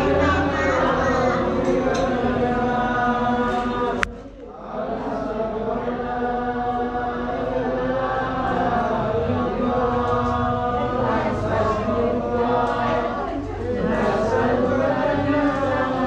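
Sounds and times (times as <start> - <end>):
voices chanting long notes: 0.0 - 16.0.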